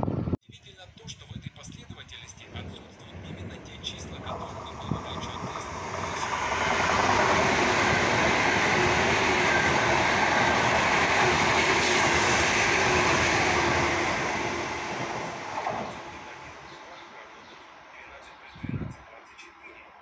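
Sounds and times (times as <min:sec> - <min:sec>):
high-speed train passing: 0:02.0 - 0:20.0.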